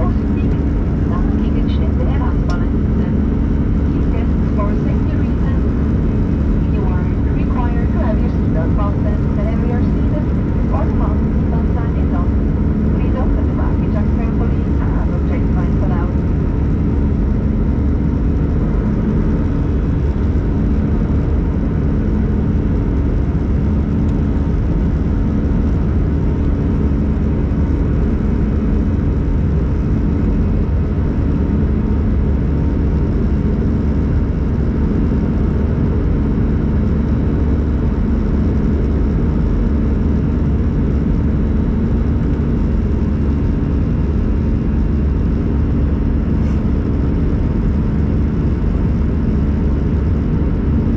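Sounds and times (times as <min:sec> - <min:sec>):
airplane cabin engine drone: 0:00.0 - 0:50.9
low hum tones: 0:00.0 - 0:50.9.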